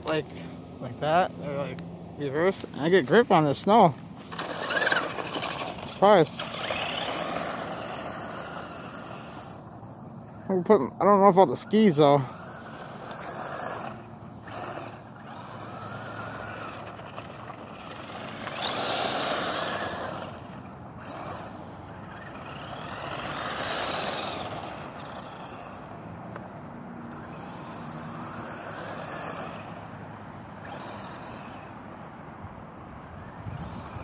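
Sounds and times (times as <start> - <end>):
rc car motor whining: 2.4 - 32.1, 32.8 - 34.0.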